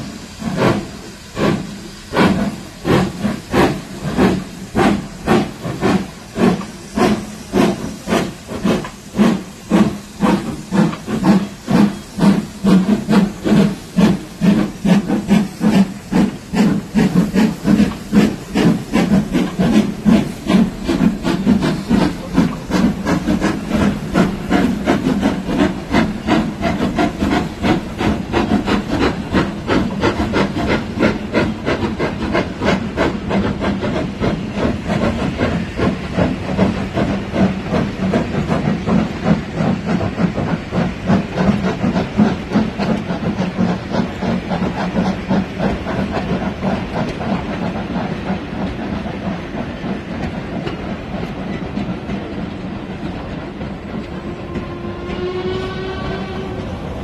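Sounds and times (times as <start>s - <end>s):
steam locomotives chuffing: 0.0s - 57.0s.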